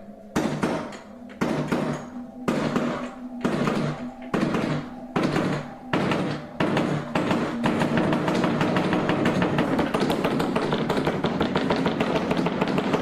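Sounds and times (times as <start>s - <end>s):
loud ringing knocks: 0.4s - 13.0s.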